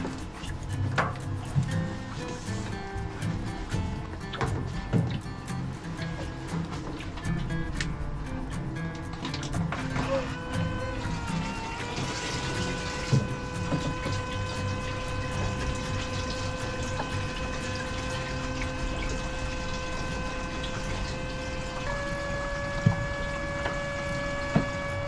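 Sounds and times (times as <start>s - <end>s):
electric pump whining: 0.0s - 25.0s
liquid running: 0.0s - 25.0s.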